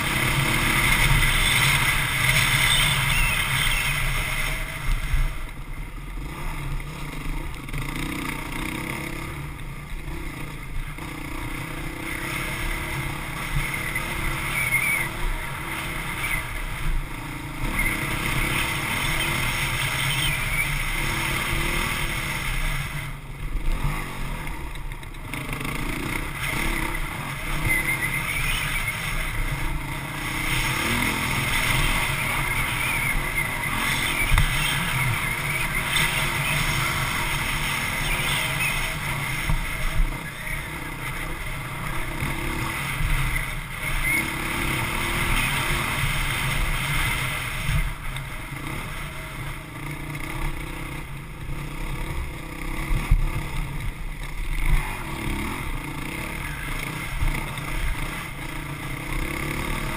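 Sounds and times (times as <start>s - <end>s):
dirt bike engine under throttle: 0.0s - 59.9s.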